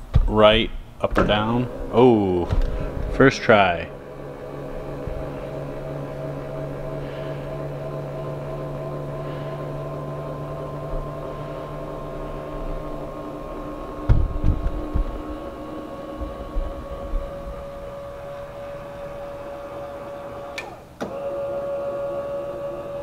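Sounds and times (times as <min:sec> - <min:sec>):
electric actuator motor whining: 0:00.0 - 0:23.0.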